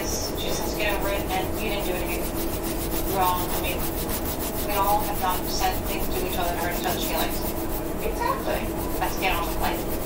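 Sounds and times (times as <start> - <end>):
crayon rubbing on paper: 0.4 - 10.0.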